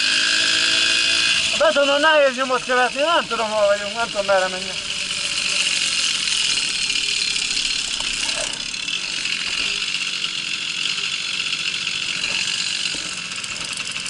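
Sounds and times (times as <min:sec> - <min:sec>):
moped engine running: 0:00.0 - 0:14.0.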